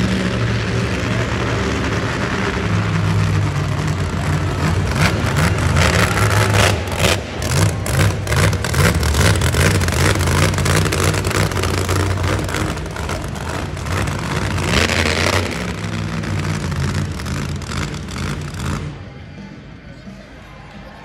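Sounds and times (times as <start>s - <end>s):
truck engine revving: 0.0s - 19.4s.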